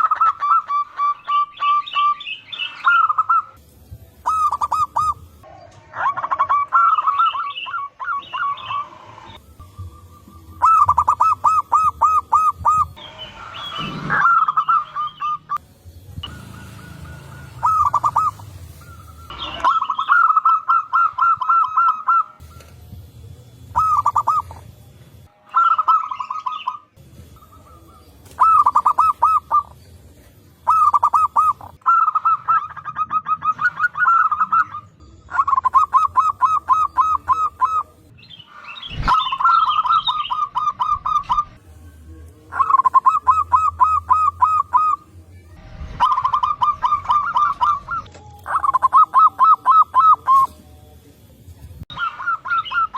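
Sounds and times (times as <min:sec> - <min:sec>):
doves cooing: 0:00.0 - 0:03.6, 0:04.2 - 0:15.6, 0:16.2 - 0:38.1, 0:38.8 - 0:50.8.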